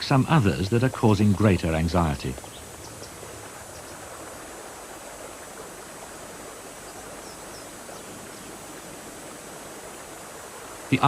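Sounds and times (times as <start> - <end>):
stream running over stones: 0.0 - 11.0.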